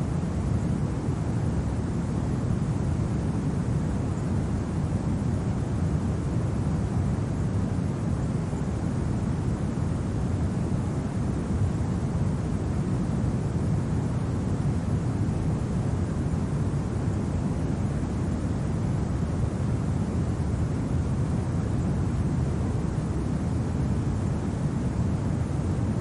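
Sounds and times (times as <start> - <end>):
low wind rumble: 0.0 - 26.0.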